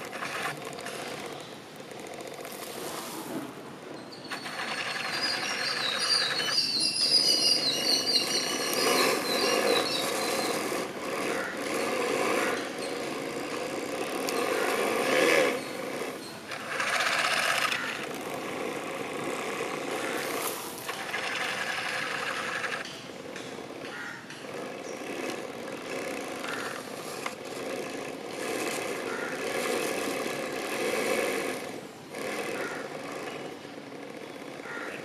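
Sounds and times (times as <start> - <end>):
toy excavator hydraulic pump and motor: 0.0 - 3.0, 4.0 - 35.0.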